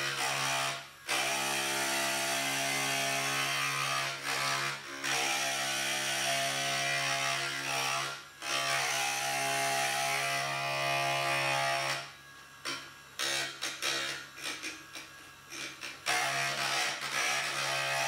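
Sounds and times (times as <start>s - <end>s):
grinder motor hum: 0.0s - 18.0s.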